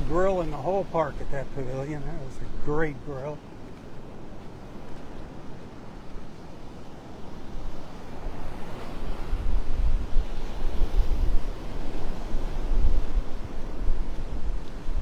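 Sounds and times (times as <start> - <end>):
surf washing: 0.0 - 15.0
wind buffeting microphone: 0.0 - 15.0.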